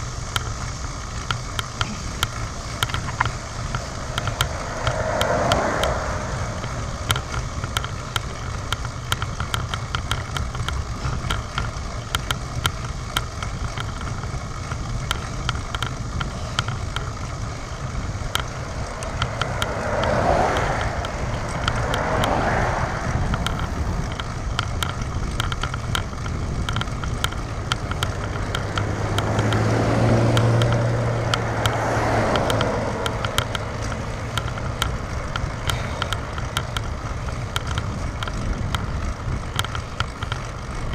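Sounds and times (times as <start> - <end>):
bike road rattle: 0.0 - 40.9
car engine hum: 0.0 - 40.9
car tyre noise passing: 0.0 - 40.9
wind noise: 0.0 - 40.9
small clicks: 0.3 - 40.9.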